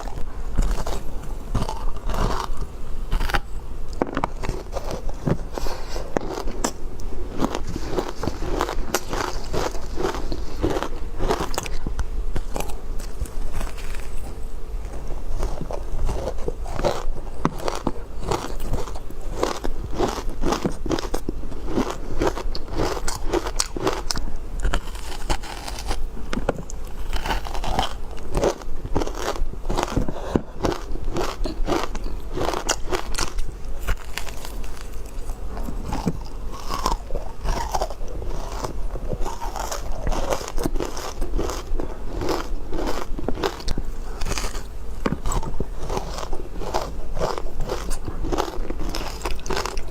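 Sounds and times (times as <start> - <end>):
ice crunching between teeth: 0.0 - 11.8, 12.4 - 14.3, 15.3 - 26.0, 26.8 - 49.9.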